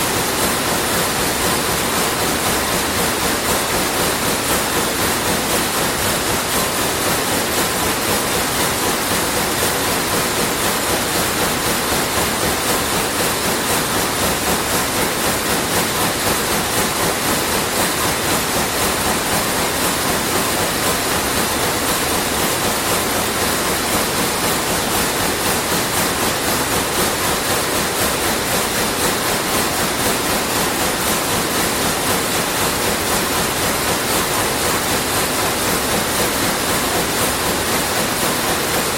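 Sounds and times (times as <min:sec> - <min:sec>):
weaving looms clattering: 0:00.0 - 0:38.9.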